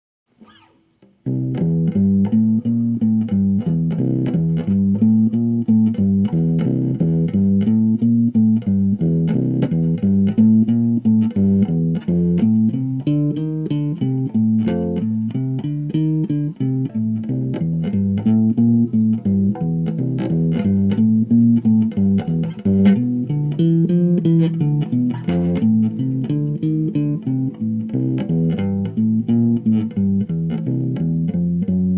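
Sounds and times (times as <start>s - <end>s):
bass guitar low notes: 1.0s - 31.9s.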